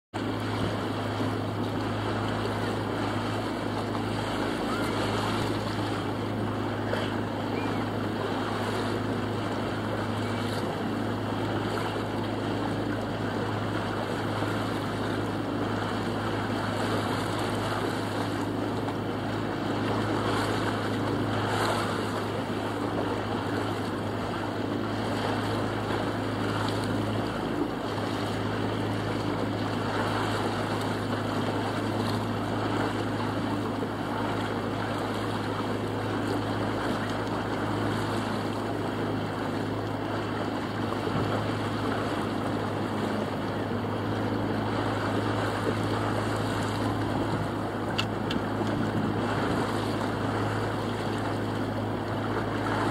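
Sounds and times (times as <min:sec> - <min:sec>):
boat engine humming: 0:00.1 - 0:52.9
water washing along hull: 0:00.1 - 0:52.9.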